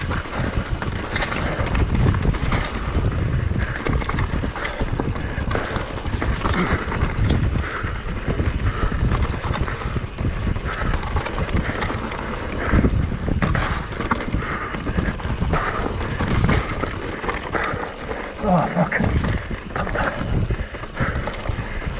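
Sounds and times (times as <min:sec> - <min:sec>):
bike rattling and knocking: 0:00.0 - 0:21.9
tyres rolling over dirt trail: 0:00.0 - 0:21.9
wind buffeting microphone: 0:00.0 - 0:21.9.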